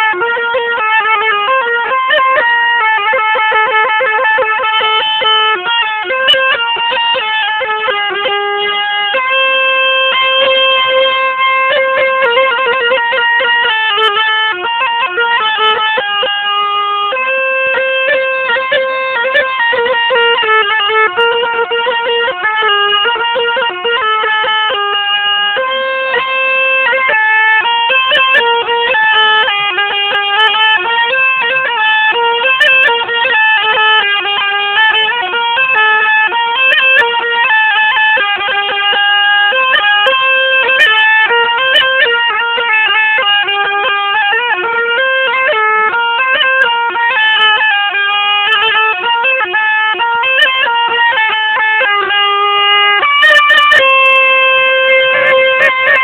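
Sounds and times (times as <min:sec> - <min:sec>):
zurna playing folk melody: 0:00.0 - 0:56.0.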